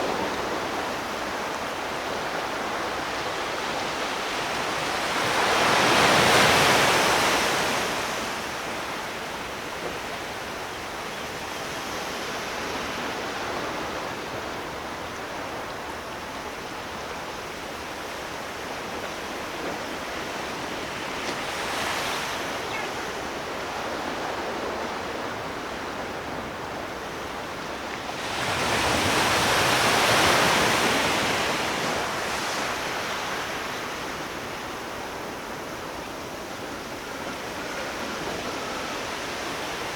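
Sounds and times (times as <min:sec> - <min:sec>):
sea waves breaking on shore: 0:00.0 - 0:39.9
surf hiss: 0:00.0 - 0:39.9.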